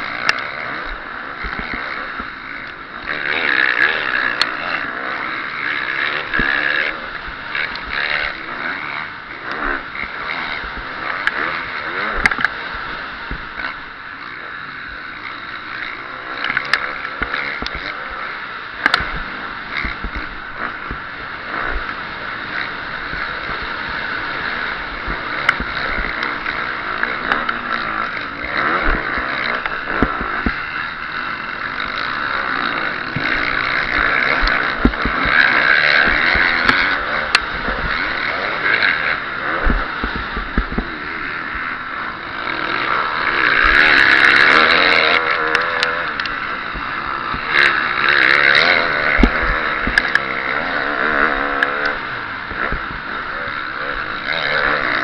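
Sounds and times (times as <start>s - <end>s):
motocross engine revving: 0.0s - 55.0s
rushing wind: 0.0s - 55.0s.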